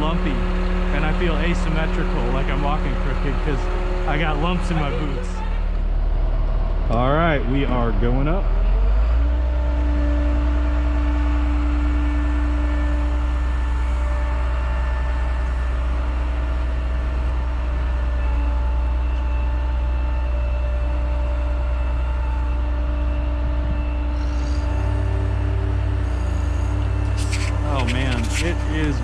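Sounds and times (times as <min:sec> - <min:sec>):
hydraulic whine: 0:00.0 - 0:29.0
truck engine running: 0:00.0 - 0:29.0.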